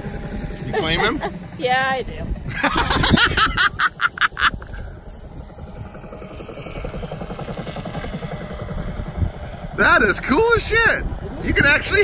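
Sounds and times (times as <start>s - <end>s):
faint turbine whine: 0.0s - 12.0s
helicopter rotor chop: 0.0s - 12.0s.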